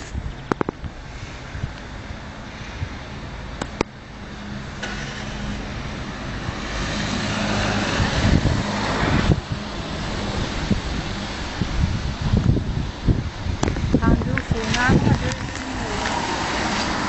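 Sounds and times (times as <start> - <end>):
rushing noise: 0.0 - 17.0
vehicle engine hum: 0.0 - 17.0.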